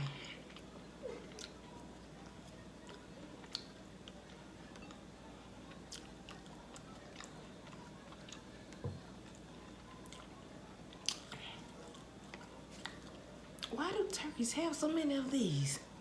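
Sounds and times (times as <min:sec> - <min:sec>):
chewing meat: 0:00.2 - 0:13.8.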